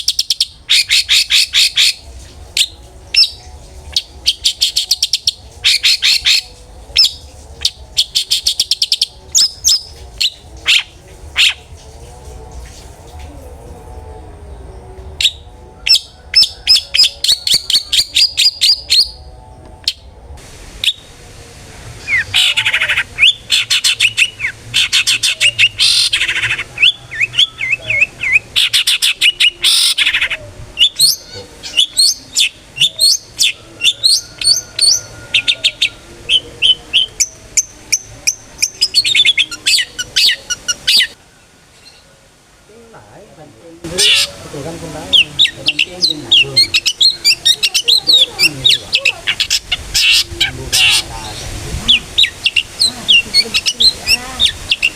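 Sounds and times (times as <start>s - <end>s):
shrike chattering song: 0.0s - 20.1s, 22.0s - 41.2s, 43.8s - 54.9s.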